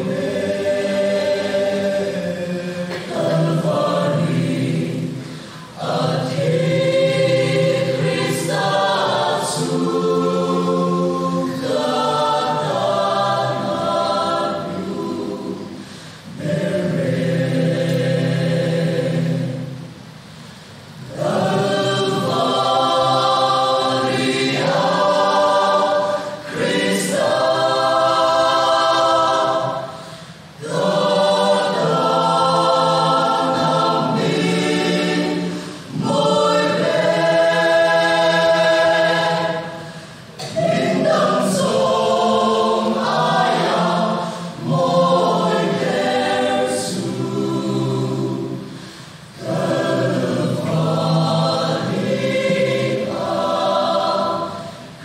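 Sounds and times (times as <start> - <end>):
mixed choir singing gospel: 0.0 - 55.0.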